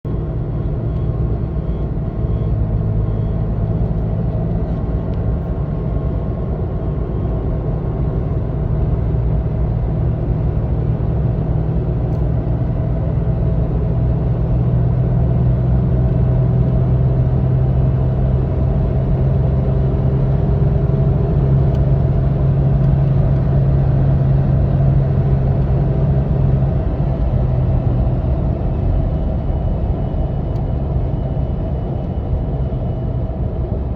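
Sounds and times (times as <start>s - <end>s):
road and tyre noise: 0.1s - 33.9s.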